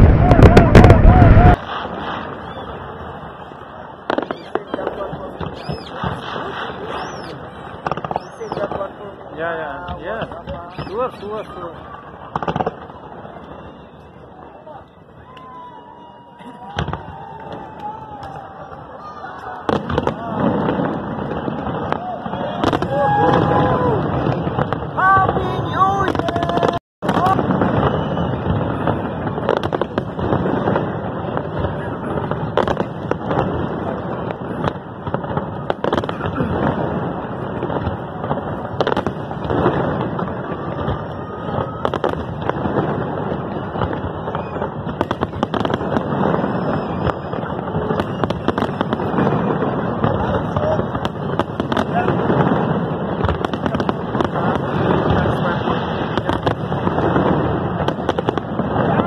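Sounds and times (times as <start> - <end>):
fireworks bursting: 0.0 - 59.0
sharp fireworks bangs: 0.0 - 59.0.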